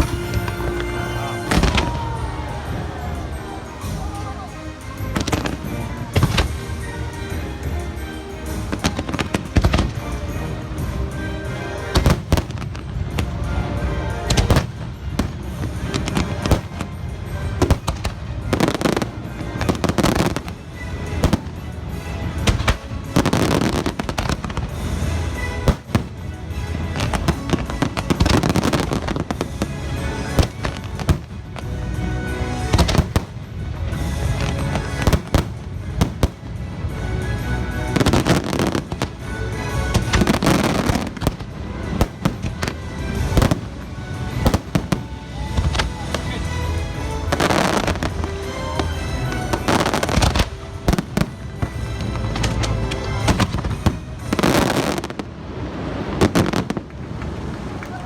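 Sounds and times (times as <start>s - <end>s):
fireworks bangs: 0.0s - 58.0s
fireworks crackling: 0.0s - 58.0s
show music: 0.0s - 58.0s.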